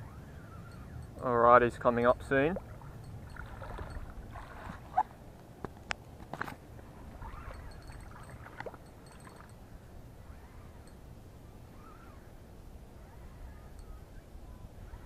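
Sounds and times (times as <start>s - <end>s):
faint water sounds: 0.0s - 15.0s
wind rumble on microphone: 0.0s - 15.0s.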